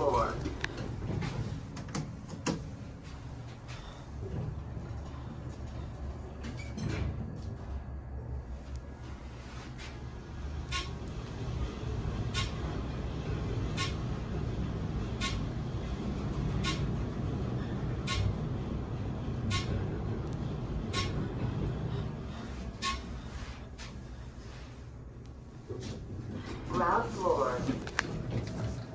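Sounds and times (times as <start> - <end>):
elevator car rumble: 0.0 - 28.9.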